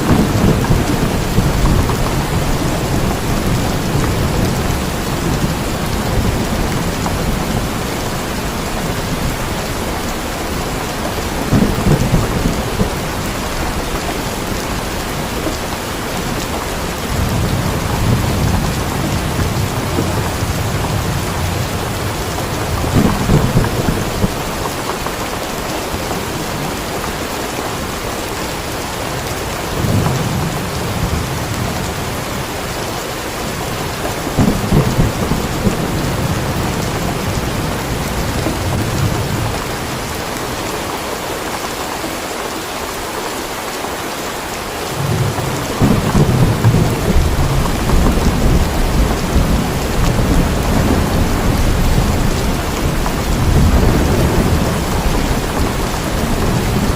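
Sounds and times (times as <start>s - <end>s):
thunder rumbling: 0.0s - 40.7s, 44.9s - 56.9s
heavy rain: 0.0s - 56.9s.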